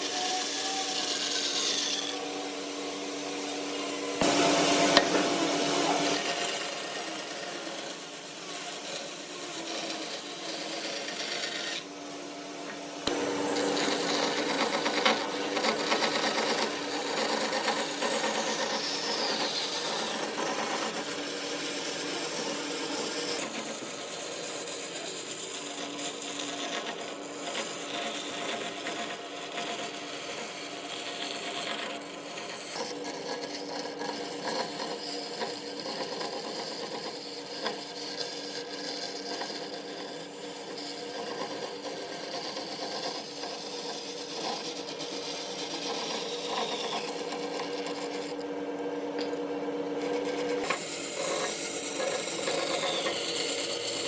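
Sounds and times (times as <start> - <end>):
power tool running against wood: 0.0 - 12.0, 13.0 - 54.0.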